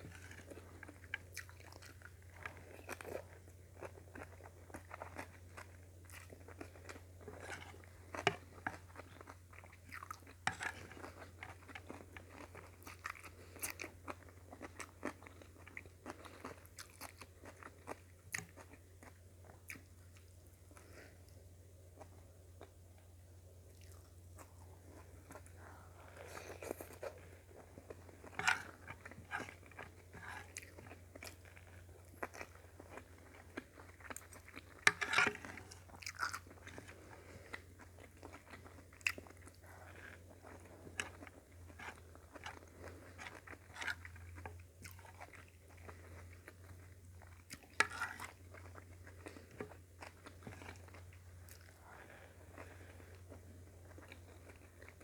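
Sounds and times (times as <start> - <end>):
faint low hum: 0.0 - 55.0
person chewing food: 0.0 - 55.0.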